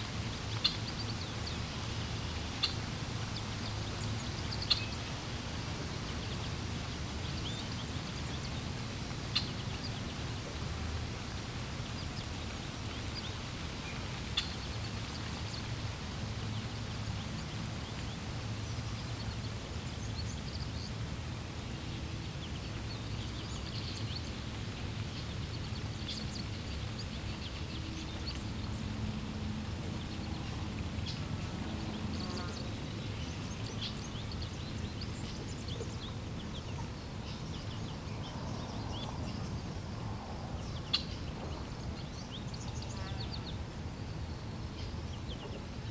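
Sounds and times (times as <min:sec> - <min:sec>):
flowing water: 0:00.0 - 0:45.9.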